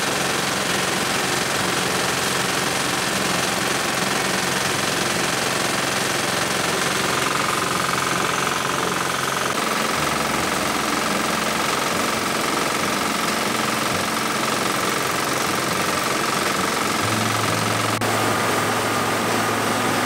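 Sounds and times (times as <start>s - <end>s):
rice thresher running: 0.0s - 20.0s
steady high whine: 3.4s - 20.0s.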